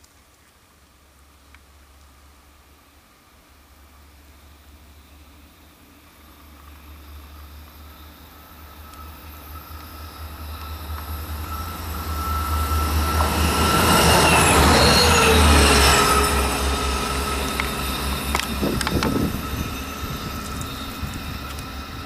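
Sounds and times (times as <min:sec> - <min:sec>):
diesel railcar passing: 0:01.0 - 0:22.0.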